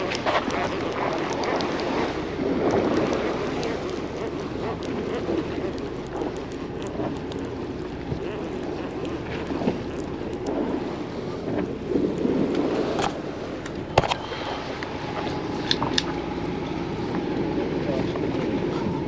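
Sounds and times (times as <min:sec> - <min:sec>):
sea noise: 0:00.0 - 0:19.0
wind: 0:00.0 - 0:19.0
wind buffeting microphone: 0:00.0 - 0:19.0.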